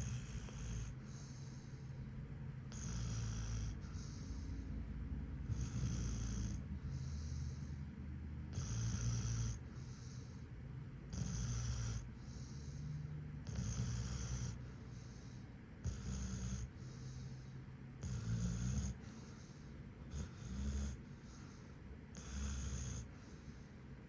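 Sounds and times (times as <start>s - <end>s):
dog snoring: 0.0s - 2.0s, 2.6s - 4.6s, 5.4s - 7.8s, 8.5s - 23.7s.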